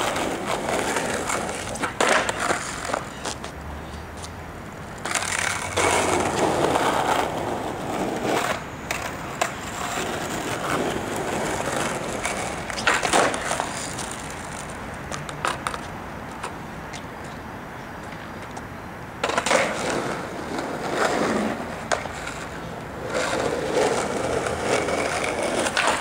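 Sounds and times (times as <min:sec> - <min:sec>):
skateboard clacking on pavement: 0:00.0 - 0:17.4, 0:18.0 - 0:26.0
skateboard wheels rolling on asphalt: 0:00.0 - 0:26.0.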